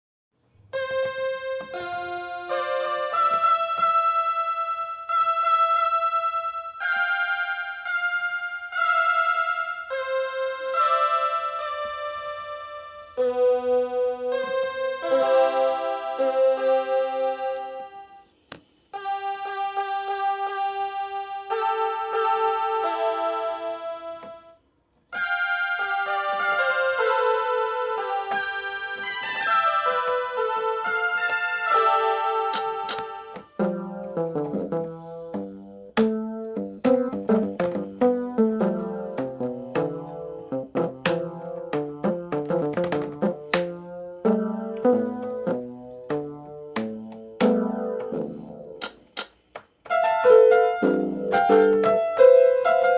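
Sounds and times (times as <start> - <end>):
keyboard melody with chords: 0.5 - 18.4, 19.0 - 52.9.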